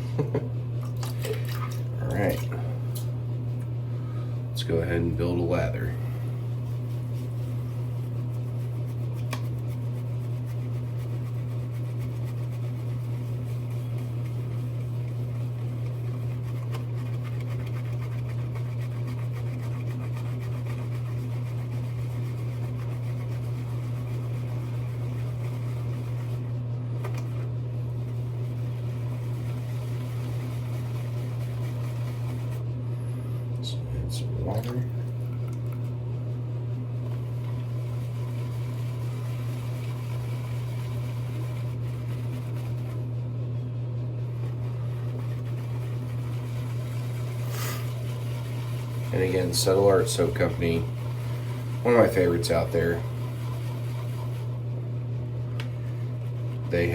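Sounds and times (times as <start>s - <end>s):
low fan-like hum: 0.0s - 56.9s
shaving brush lathering soap: 0.2s - 43.1s, 44.1s - 56.9s.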